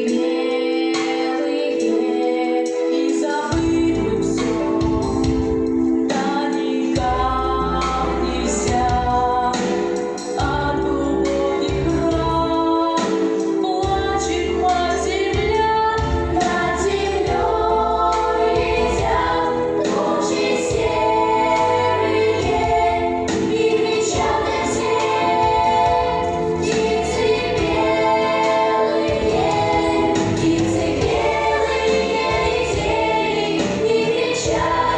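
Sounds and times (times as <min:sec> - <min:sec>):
children's choir singing: 0:00.0 - 0:34.9
instrumental accompaniment: 0:00.0 - 0:34.9.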